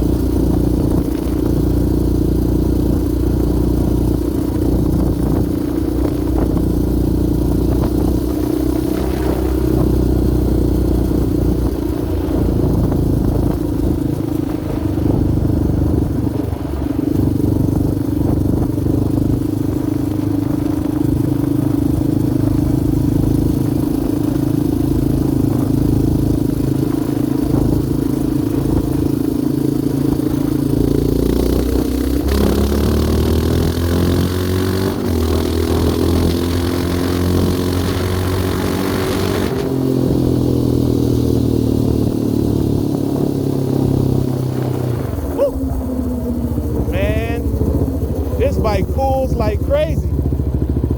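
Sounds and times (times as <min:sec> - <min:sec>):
quad engine running: 0:00.0 - 0:50.9.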